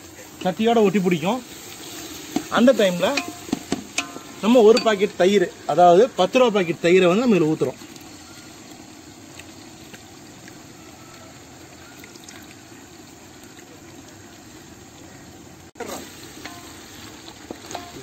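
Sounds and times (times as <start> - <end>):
masala sizzling in a pot: 0.0 - 18.0.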